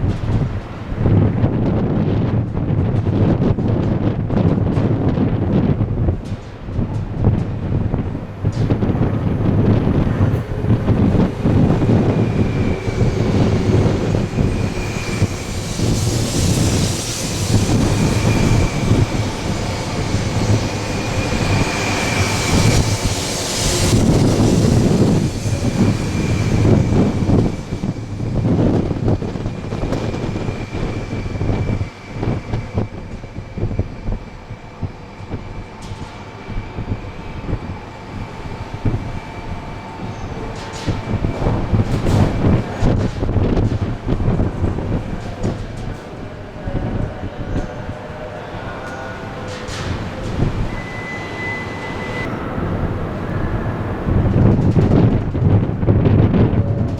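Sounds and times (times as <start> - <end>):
train rumble: 0.0 - 56.9
wind noise on microphone: 0.0 - 56.9
steady high whine: 4.2 - 56.9.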